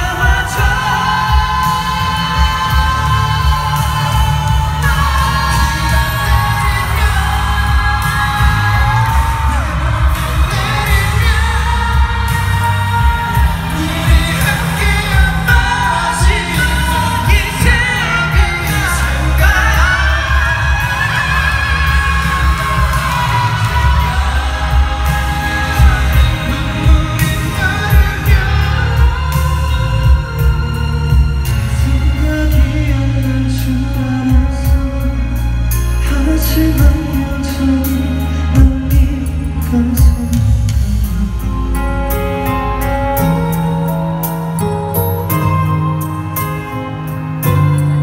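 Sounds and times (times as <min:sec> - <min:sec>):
man singing into a microphone: 0:00.0 - 0:42.3
amplified pop music with heavy bass: 0:00.0 - 0:48.0.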